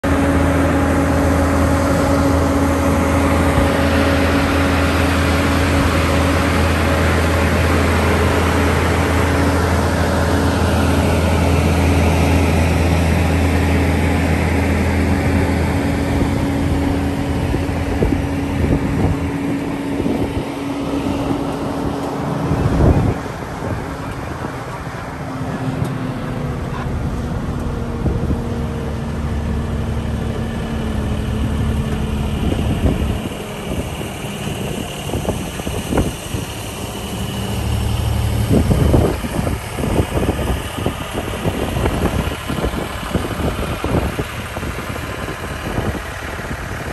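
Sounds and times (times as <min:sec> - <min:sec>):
diesel truck engine drone: 0:00.0 - 0:46.9
tyre and road noise: 0:00.0 - 0:46.9.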